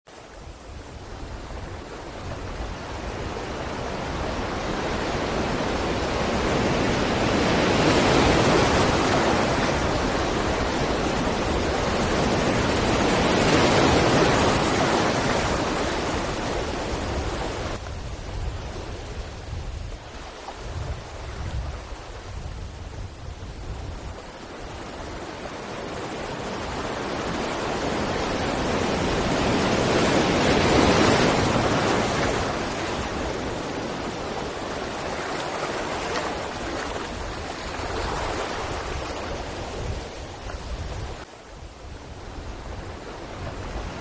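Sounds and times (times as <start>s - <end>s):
sea waves washing onto shore: 0.1s - 44.0s.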